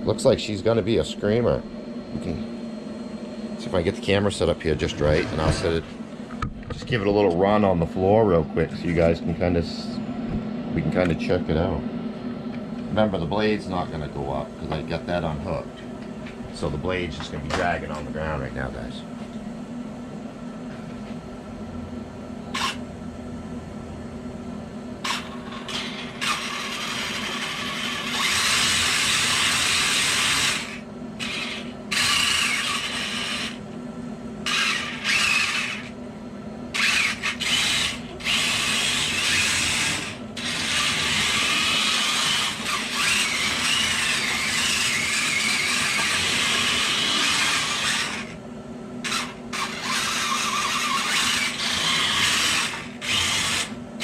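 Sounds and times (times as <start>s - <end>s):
electric motors whirring: 0.0s - 18.9s, 22.4s - 22.9s, 25.0s - 33.8s, 34.4s - 36.0s, 36.7s - 48.4s, 49.0s - 54.0s
steady hum: 0.0s - 54.0s.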